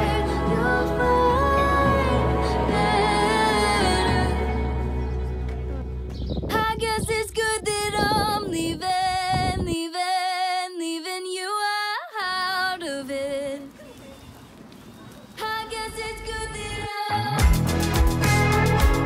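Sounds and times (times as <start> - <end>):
song with woman singing: 0.0 - 5.7, 6.5 - 13.9, 15.3 - 17.7.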